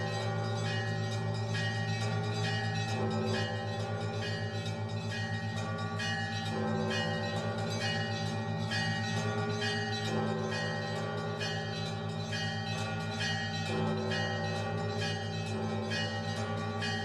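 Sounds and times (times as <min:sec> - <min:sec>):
large bells humming: 0:00.0 - 0:17.0
small church bells ringing: 0:00.0 - 0:17.0.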